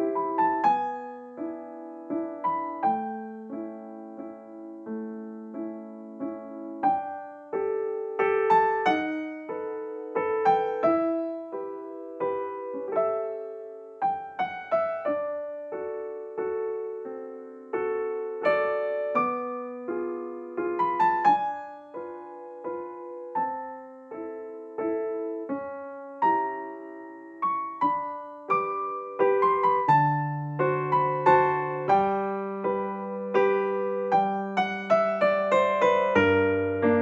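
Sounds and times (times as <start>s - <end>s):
solo piano waltz: 0.0s - 37.0s.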